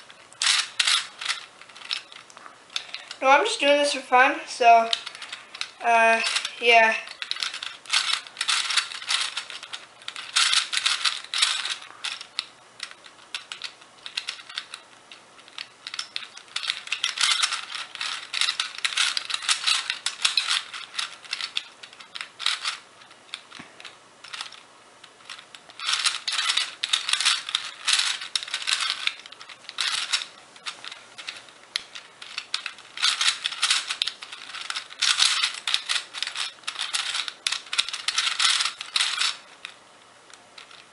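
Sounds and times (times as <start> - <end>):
plastic puzzle clicking: 0.4 - 3.2, 4.8 - 14.8, 15.4 - 24.6, 25.3 - 39.7, 40.3 - 40.9.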